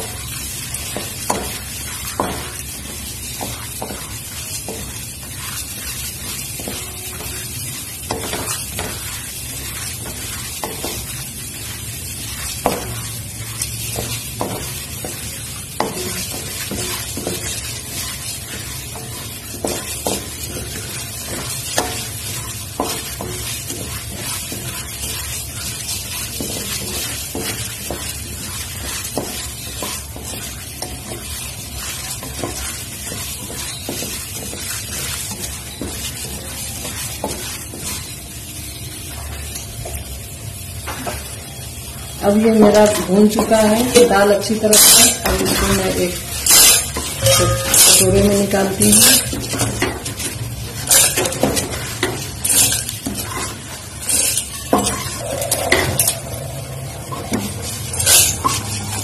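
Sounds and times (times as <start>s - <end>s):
wooden spatula scraping and knocking pan: 0.0s - 40.0s, 42.3s - 59.0s
lentils sizzling in oil: 0.0s - 59.0s.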